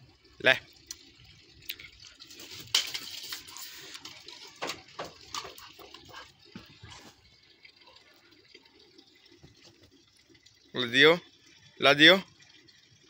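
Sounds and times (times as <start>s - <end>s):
water splashing and pouring: 0.0s - 13.0s.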